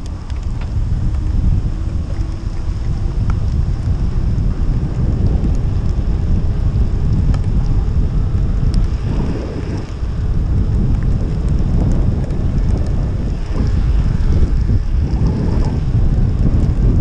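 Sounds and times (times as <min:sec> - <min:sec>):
wind buffeting a microphone: 0:00.0 - 0:17.0.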